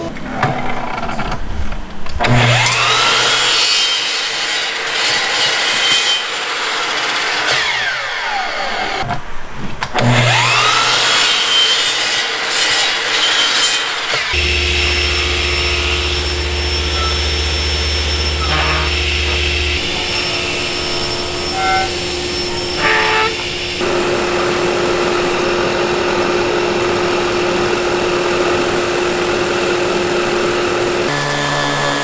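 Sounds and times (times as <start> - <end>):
table saw humming: 2.2 - 9.0, 10.0 - 32.0
miter saw cutting wood: 2.2 - 9.1, 10.0 - 32.0.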